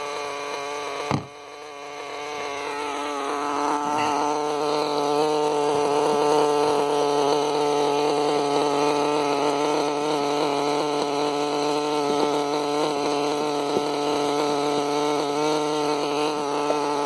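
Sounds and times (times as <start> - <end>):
model helicopter engine buzzing: 0.0 - 17.0.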